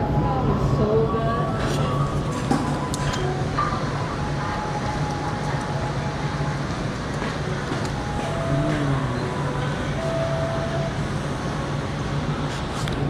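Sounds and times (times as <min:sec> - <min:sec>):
steady rumbling hiss with low hum: 0:00.0 - 0:13.0.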